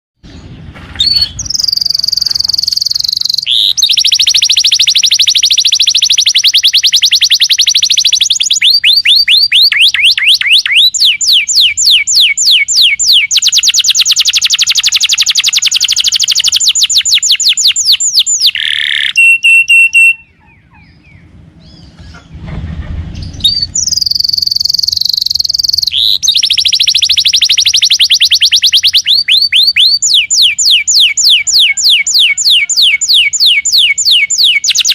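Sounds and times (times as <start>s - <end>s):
canary singing trills: 0.2s - 22.4s, 23.2s - 34.9s.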